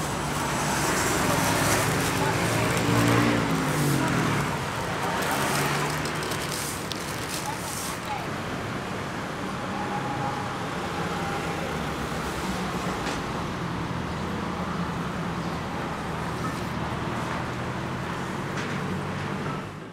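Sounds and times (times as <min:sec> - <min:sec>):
road traffic hum: 0:00.0 - 0:19.9.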